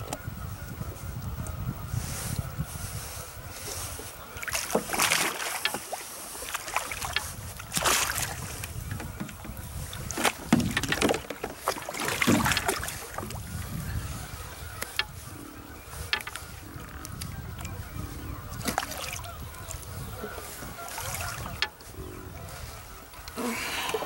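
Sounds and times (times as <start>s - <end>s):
water splashing and sloshing: 2.0s - 24.0s.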